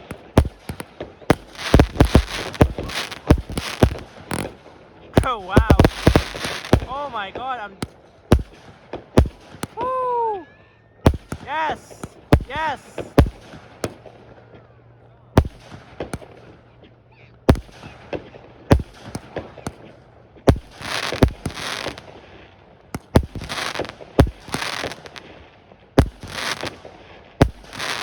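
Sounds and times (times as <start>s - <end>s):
fireworks bangs: 0.0s - 10.0s, 11.0s - 14.5s, 15.4s - 16.7s, 17.5s - 28.0s
fireworks crackling: 0.0s - 10.3s, 11.0s - 14.3s, 15.4s - 16.6s, 17.5s - 28.0s.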